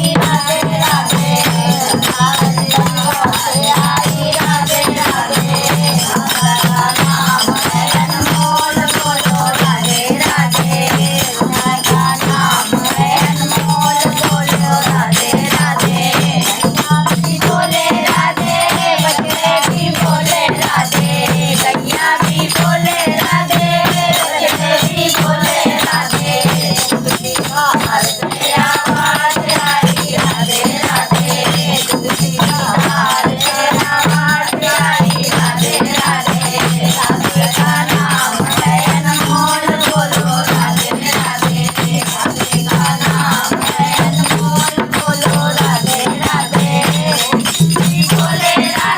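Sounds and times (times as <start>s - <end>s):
jingling tambourine: 0.0s - 48.9s
rhythmic percussion: 0.0s - 48.9s
voices singing devotional song: 0.0s - 48.9s.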